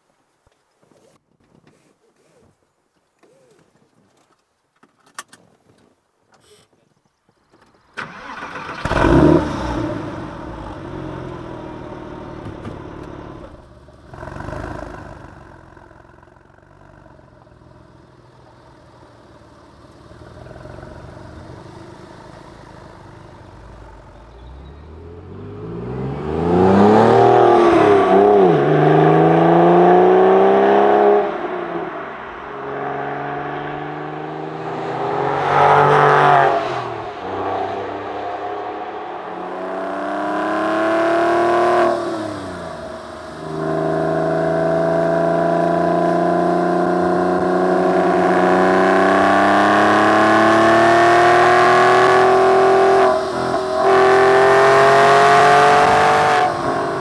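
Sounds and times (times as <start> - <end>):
car engine accelerating through gears: 8.0 - 57.0.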